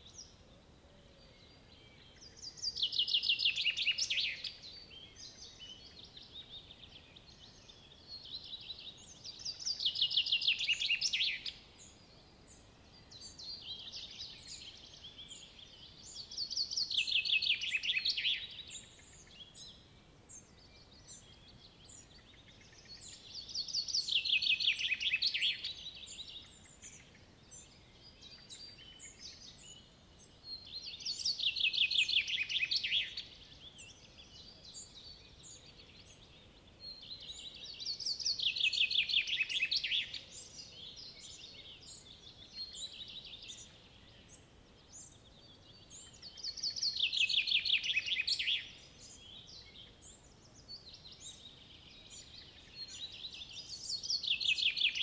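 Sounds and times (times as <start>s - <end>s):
birds chirping softly: 0.0s - 55.0s.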